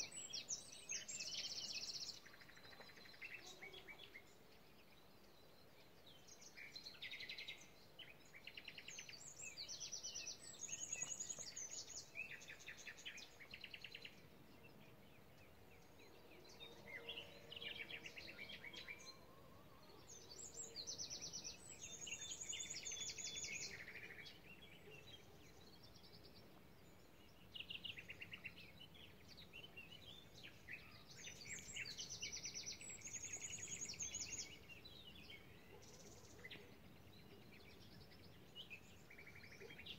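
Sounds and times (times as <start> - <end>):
songbird trilling and twittering: 0.0 - 39.9.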